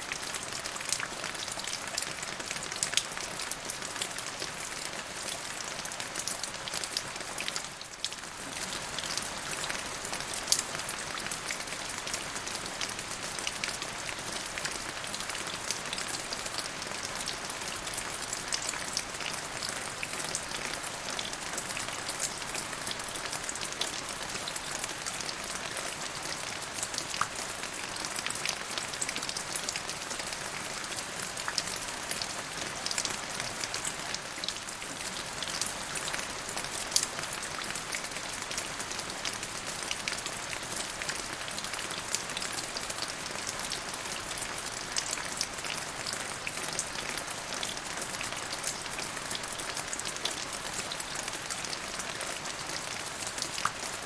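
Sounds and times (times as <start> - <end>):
sharp ticks of raindrops: 0.0 - 54.0.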